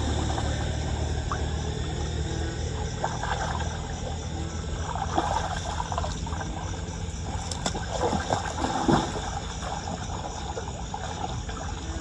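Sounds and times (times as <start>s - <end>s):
water gurgling into a drain: 0.0s - 12.0s.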